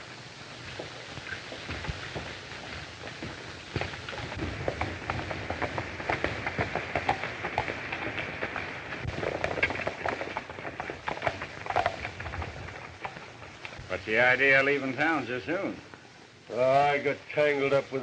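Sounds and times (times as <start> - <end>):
horse hoofbeats galloping on dirt: 0.0 - 15.8.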